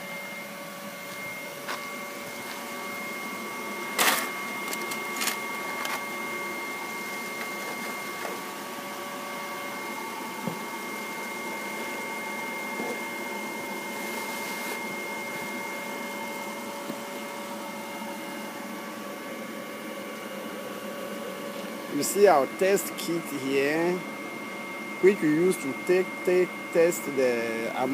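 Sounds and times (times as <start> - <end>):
machine hum with high whine: 0.0 - 27.9.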